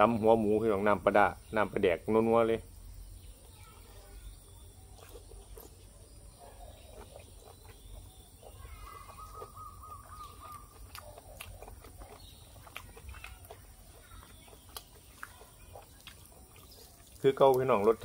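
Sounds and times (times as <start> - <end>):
faint chewing: 3.4 - 18.0.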